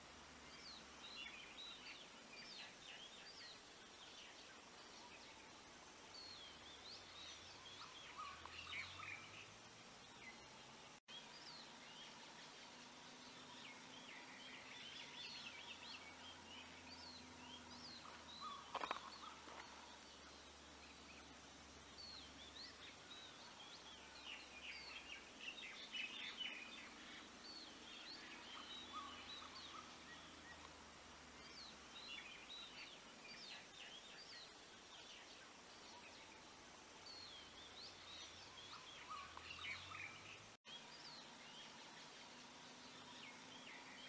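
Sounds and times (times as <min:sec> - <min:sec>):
small birds chirping: 0:00.0 - 0:44.0
steady hiss: 0:00.0 - 0:44.0.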